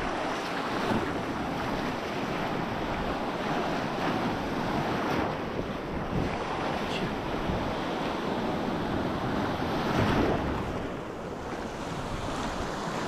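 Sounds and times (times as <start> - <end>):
sea surf washing onto shore: 0.0 - 13.0
wind on microphone: 0.0 - 13.0.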